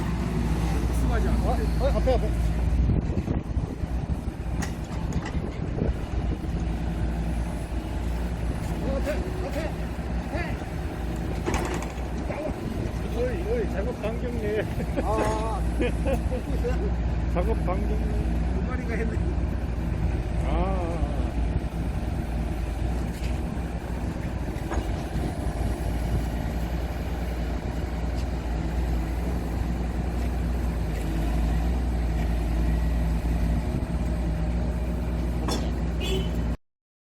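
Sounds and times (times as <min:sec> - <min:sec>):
excavator diesel engine running: 0:00.0 - 0:36.6.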